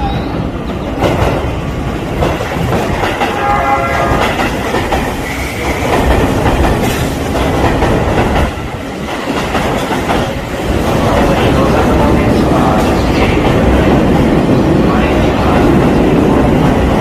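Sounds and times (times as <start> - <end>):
train wheels rumbling and clattering: 0.0 - 17.0.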